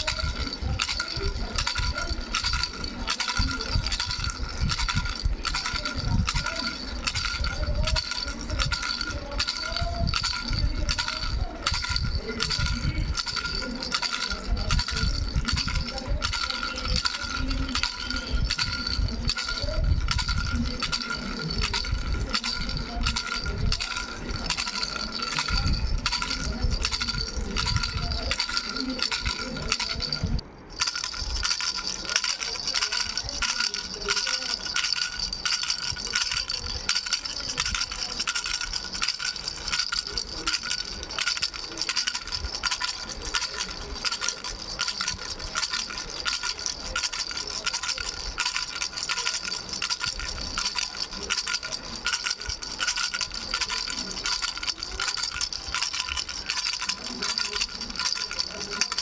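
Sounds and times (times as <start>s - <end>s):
baby rattle bells jingling: 0.0s - 59.0s.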